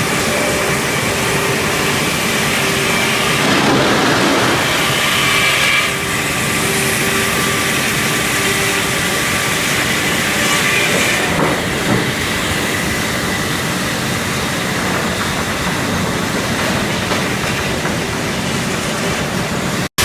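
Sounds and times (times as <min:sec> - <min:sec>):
sawmill clatter and rumble: 0:00.0 - 0:19.9.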